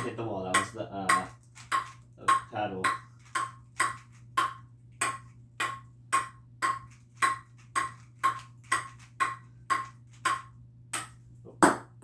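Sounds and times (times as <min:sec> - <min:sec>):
ping pong ball bouncing on paddle: 0:00.0 - 0:12.0.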